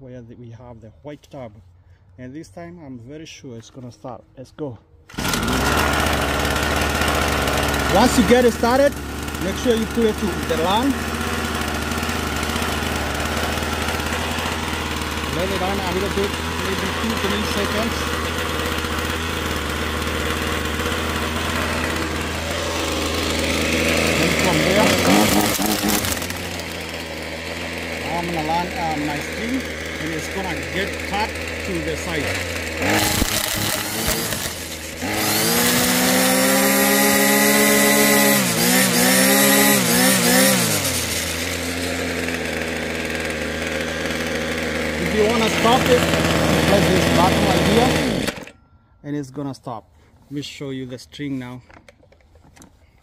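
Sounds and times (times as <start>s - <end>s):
string trimmer engine idling: 5.1s - 48.6s.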